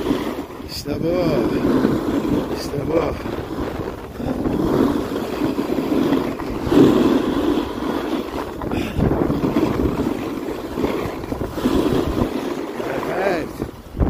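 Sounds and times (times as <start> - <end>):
skis scraping on snow: 0.0 - 14.0
wind rushing over microphone: 0.0 - 14.0.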